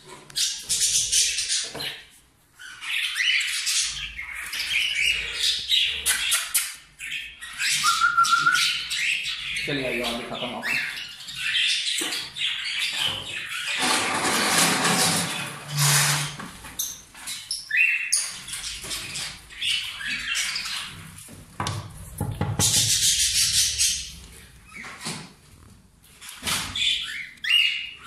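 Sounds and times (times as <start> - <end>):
parrots chirping and squawking: 0.0 - 21.3, 21.9 - 25.3, 26.1 - 28.0.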